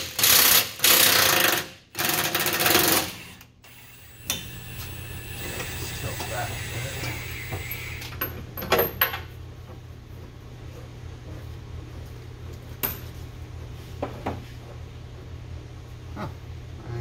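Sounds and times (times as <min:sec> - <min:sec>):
steady low hum: 0:03.2 - 0:17.0.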